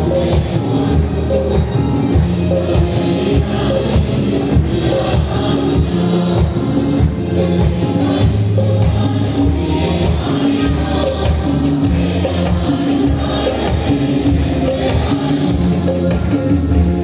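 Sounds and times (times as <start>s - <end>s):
fast percussion beat: 0.0s - 17.0s
steady bass line: 0.0s - 17.0s
worship music on electronic keyboards: 0.0s - 17.0s.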